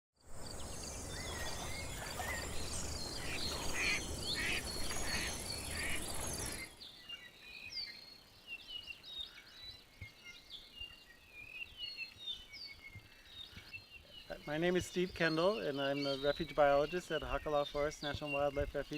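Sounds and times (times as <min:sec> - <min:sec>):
birds chirping and whistling: 0:00.4 - 0:18.9.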